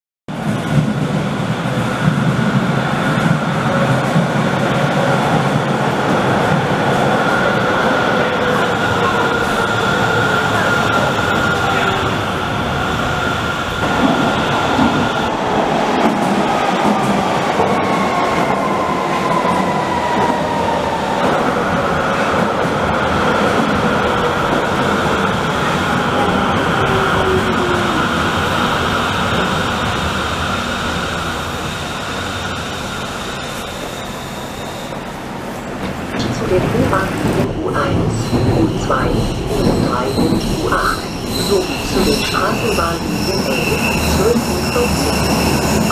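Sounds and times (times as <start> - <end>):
train wheels rumbling on rail: 0.3 - 45.9.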